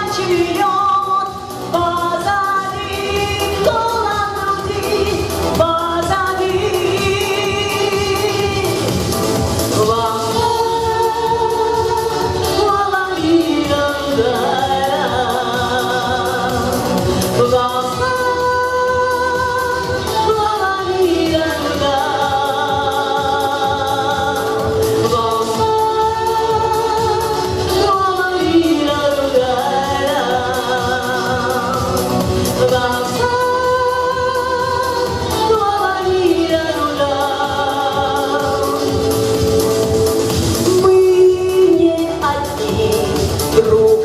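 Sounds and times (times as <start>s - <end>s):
instrumental backing: 0.0s - 44.0s
person singing pop song: 0.0s - 44.0s.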